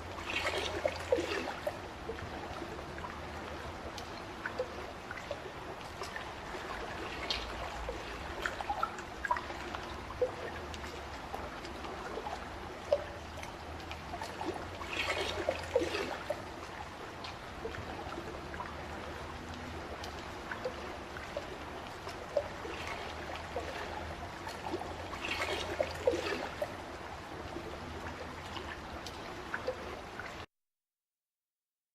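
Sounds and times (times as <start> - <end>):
water trickling and splashing: 0.0 - 30.5.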